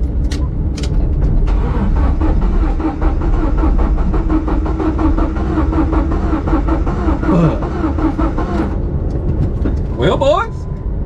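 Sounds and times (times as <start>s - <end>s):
low road and tyre rumble: 0.0s - 11.0s.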